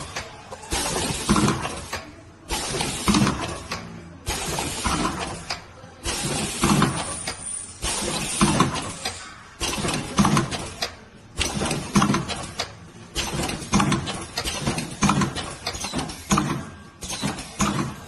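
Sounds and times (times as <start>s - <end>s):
packing machine clattering and hissing: 0.0s - 18.0s.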